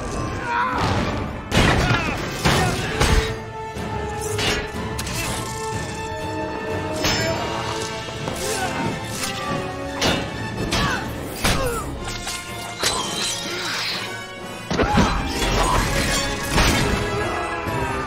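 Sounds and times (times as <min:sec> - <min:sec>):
orchestral film music: 0:00.0 - 0:18.0.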